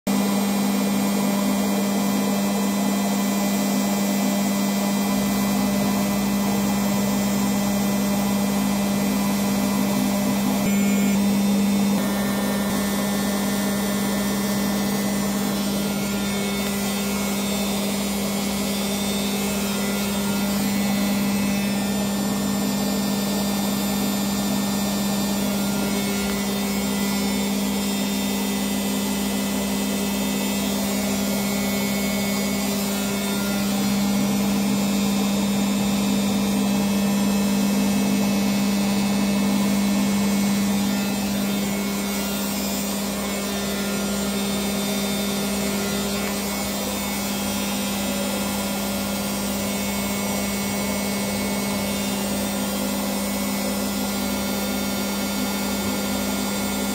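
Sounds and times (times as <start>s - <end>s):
washing machine spinning: 0.1s - 56.9s.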